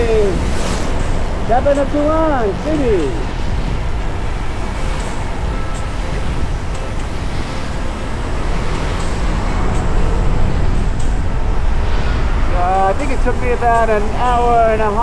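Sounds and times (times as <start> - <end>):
motorcycle engine: 0.0 - 14.5
road noise: 0.0 - 15.0
wind noise on microphone: 0.0 - 15.0.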